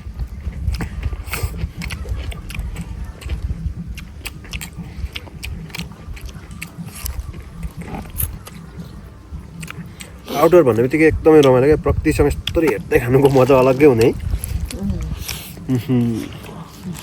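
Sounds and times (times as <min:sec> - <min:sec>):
chewing and biting: 0:00.0 - 0:17.0
mouth clicks and smacks: 0:00.0 - 0:17.0
steady low rumble: 0:00.0 - 0:17.0.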